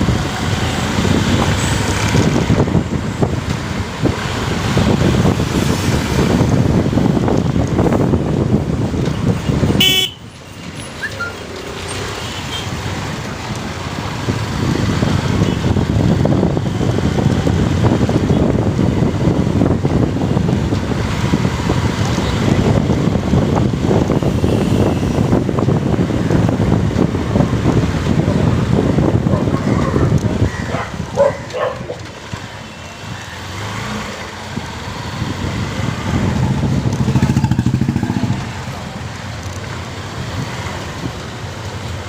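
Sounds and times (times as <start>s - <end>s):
wind rushing over microphone: 0.0s - 10.0s, 12.7s - 42.0s
road noise: 0.0s - 42.0s.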